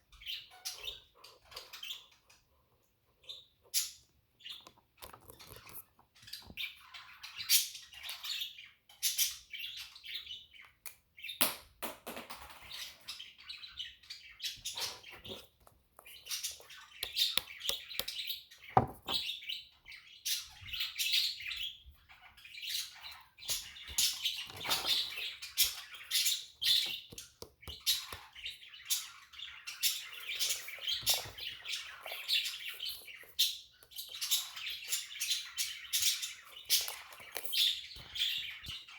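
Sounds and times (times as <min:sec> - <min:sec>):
budgies chattering and chirping: 0:00.1 - 0:02.6, 0:03.2 - 0:11.3, 0:12.6 - 0:38.9.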